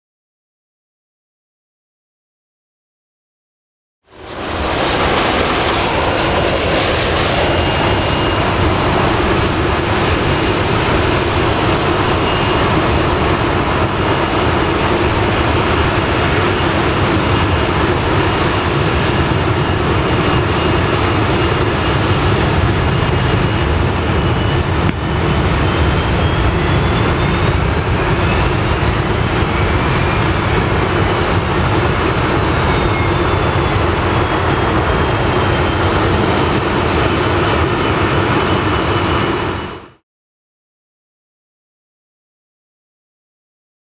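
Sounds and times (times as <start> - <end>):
jet engines running: 4.1 - 40.0
rising whine: 4.1 - 40.0.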